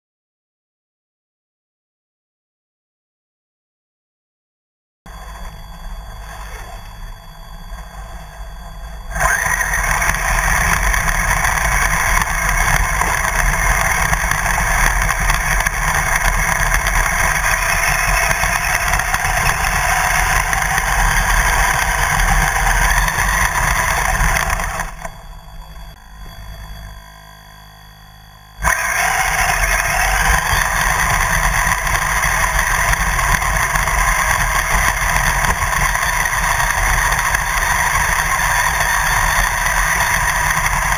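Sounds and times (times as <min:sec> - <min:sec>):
rc car motor and rattle: 0:06.2 - 0:26.9, 0:28.6 - 0:40.9.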